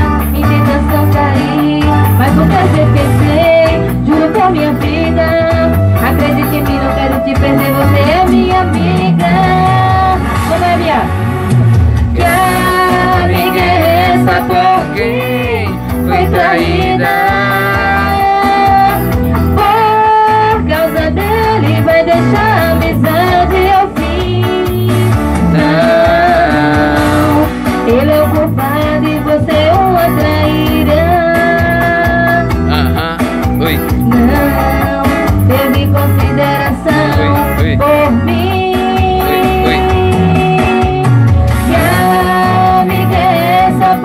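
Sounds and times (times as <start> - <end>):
woman singing into a microphone: 0.0 - 11.2, 12.0 - 32.6, 33.9 - 44.0
backing music with guitar and beat: 0.0 - 44.0.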